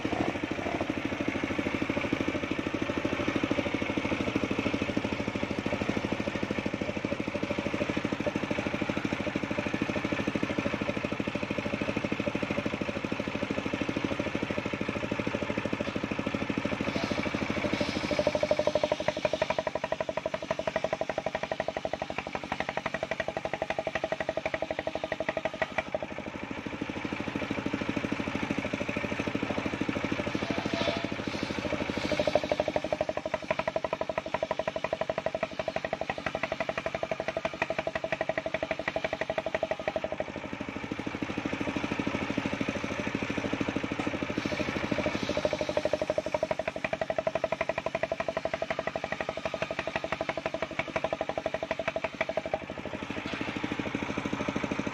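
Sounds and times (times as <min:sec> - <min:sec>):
saw blade whine cutting wood: 0:00.0 - 0:54.9
sawmill engine running: 0:00.0 - 0:54.9.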